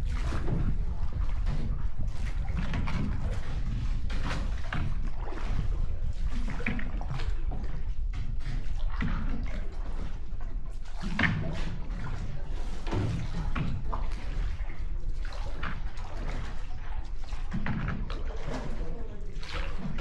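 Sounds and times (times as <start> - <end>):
low rumble: 0.0 - 20.0
water sloshing and splashing: 0.0 - 20.0.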